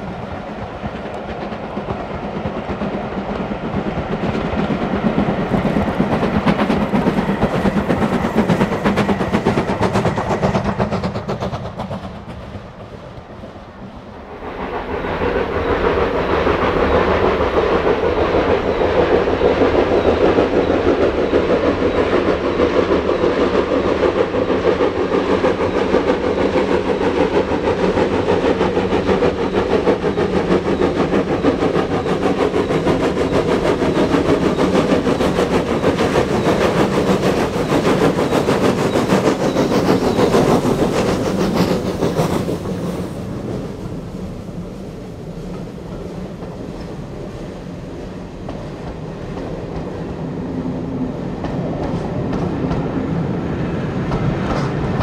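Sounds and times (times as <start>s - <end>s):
steam locomotive engine: 0.0s - 55.0s
train wheels on rail: 0.0s - 55.0s.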